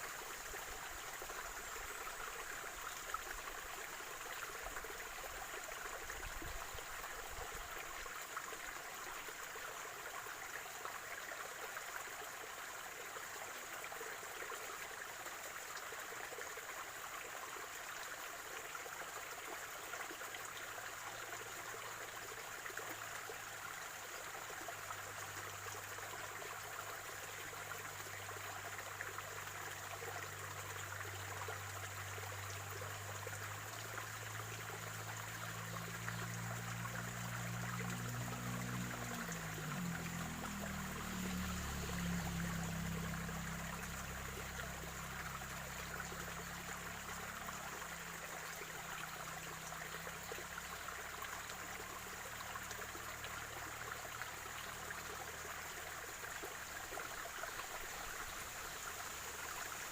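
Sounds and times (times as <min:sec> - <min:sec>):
stream trickling and gurgling: 0:00.0 - 0:59.9.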